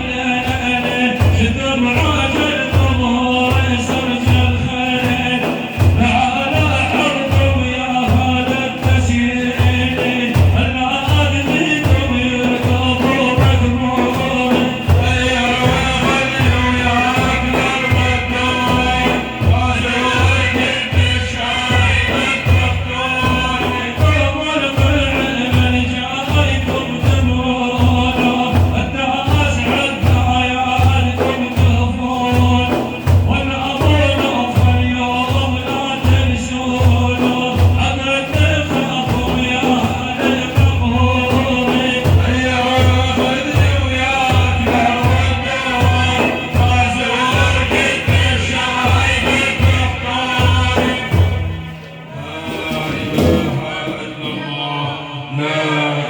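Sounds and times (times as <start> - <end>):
steady low drumbeat: 0.0 - 54.7
voices singing praise song: 0.0 - 56.0.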